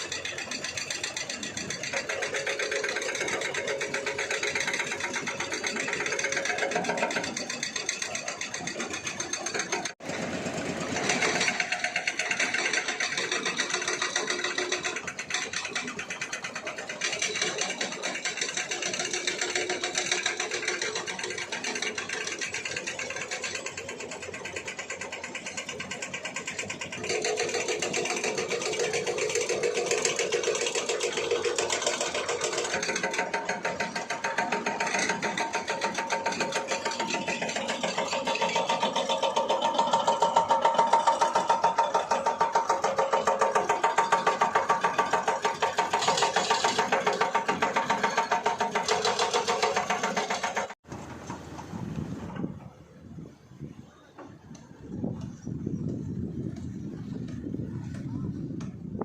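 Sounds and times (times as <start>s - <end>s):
diesel engine clattering: 0.0s - 59.0s.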